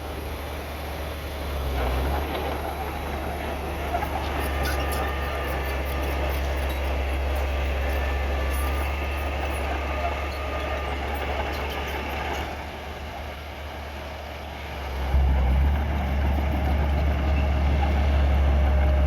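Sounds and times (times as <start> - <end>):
bulldozer diesel engine droning: 0.0 - 19.0
metallic clinking of steel tracks: 1.8 - 19.0.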